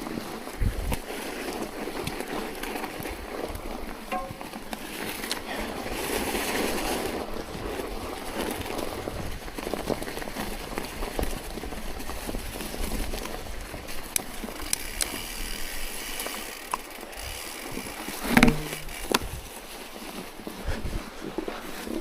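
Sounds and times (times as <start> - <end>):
bicycle tyres and drivetrain: 0.0 - 22.0.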